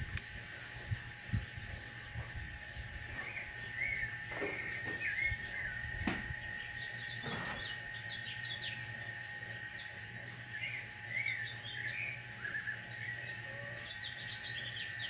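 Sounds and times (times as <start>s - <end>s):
small birds chirping: 1.3s - 15.0s.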